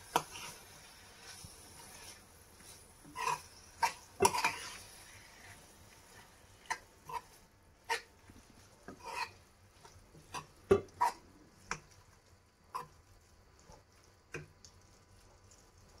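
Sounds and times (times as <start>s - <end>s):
metal spoon stirring in pan: 0.0s - 16.0s.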